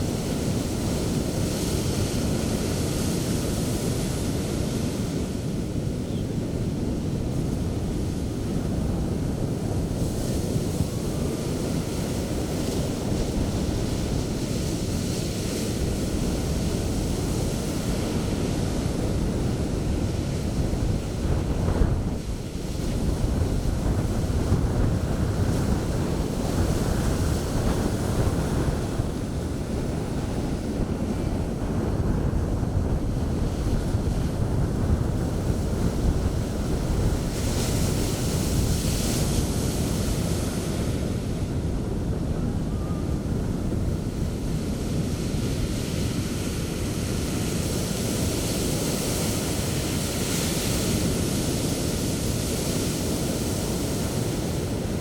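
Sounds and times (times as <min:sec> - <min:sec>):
wind buffeting microphone: 0:00.0 - 0:55.0
surf breaking on beach: 0:08.2 - 0:55.0.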